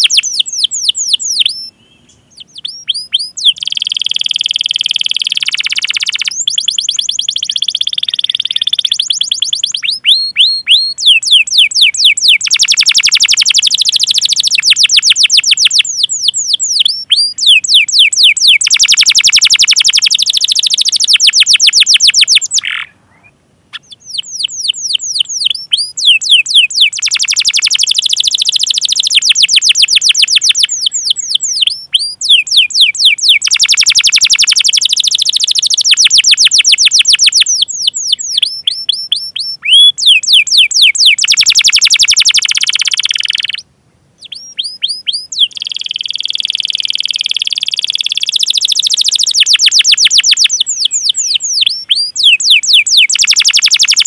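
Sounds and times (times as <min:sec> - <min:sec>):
canary singing trills: 0:00.0 - 0:43.6, 0:44.2 - 0:54.0.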